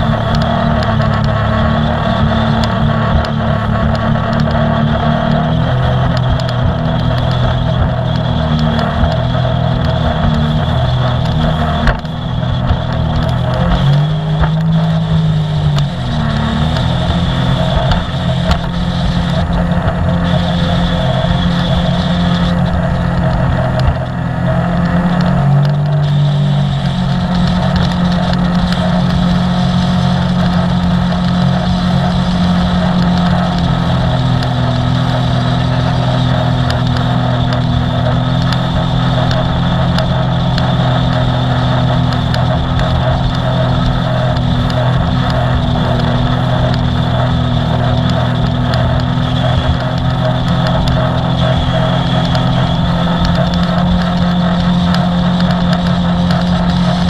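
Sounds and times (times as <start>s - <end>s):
water rushing: 0.0s - 57.0s
watercraft engine running: 0.0s - 57.0s.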